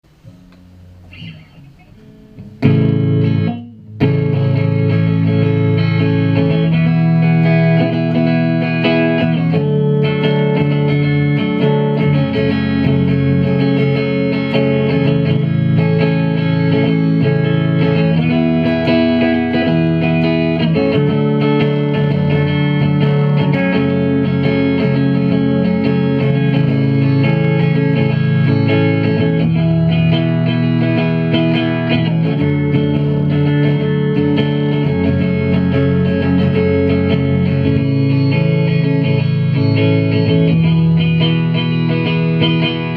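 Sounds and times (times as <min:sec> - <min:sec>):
guitar chords: 0:00.0 - 0:42.9.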